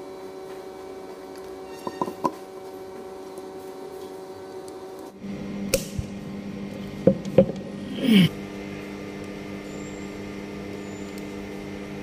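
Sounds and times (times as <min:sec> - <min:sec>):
humming room tone: 0:00.0 - 0:12.0.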